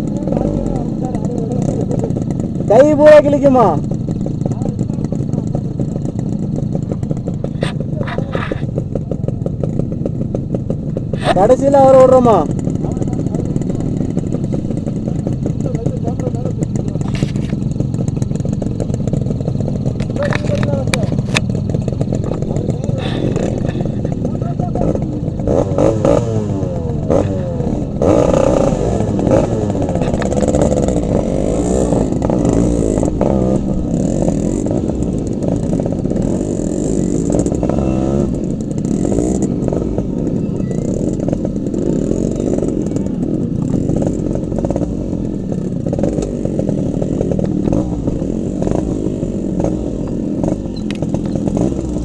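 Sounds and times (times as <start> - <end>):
two-stroke motorcycle engines: 0.0 - 52.0.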